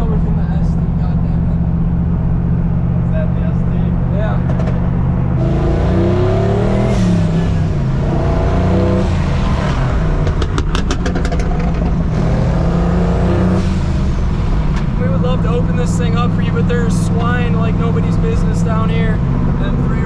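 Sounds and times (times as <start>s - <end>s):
pickup engine accelerating hard: 0.0s - 20.0s.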